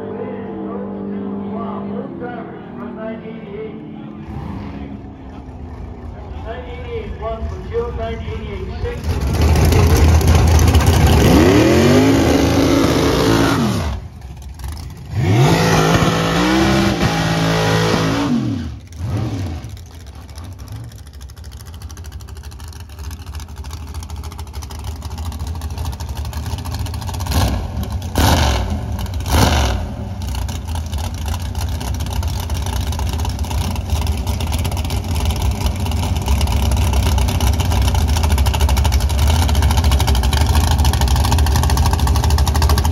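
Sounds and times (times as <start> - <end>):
dragster accelerating hard: 0.0 - 7.7, 8.3 - 42.9
engine throttle blips: 0.0 - 42.9
dragster engine idling: 4.9 - 15.2, 18.7 - 42.9.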